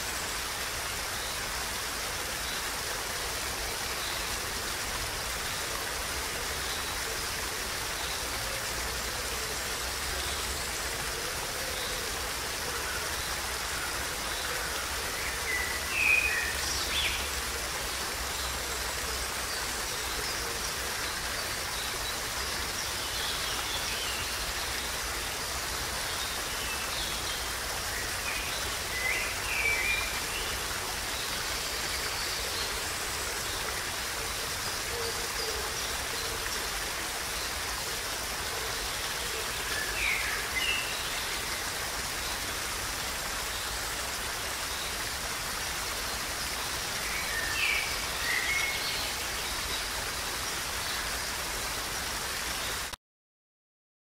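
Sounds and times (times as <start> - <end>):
stream cascading over rocks: 0.0 - 53.0.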